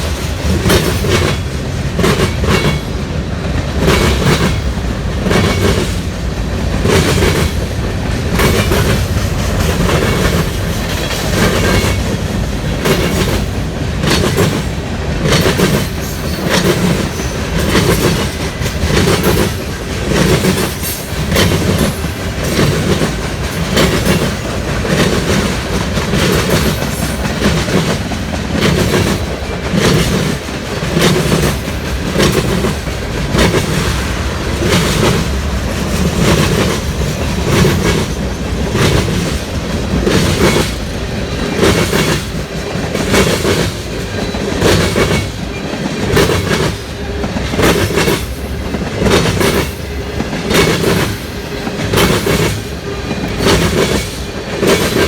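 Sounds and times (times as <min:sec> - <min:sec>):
train rumble: 0:00.0 - 0:55.0
train wheels clacking: 0:00.0 - 0:55.0.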